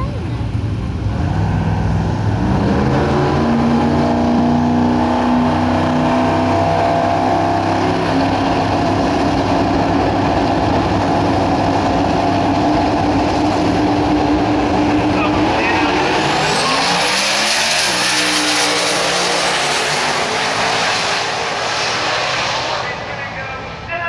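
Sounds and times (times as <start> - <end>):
race car engines running loudly: 0.0 - 24.0.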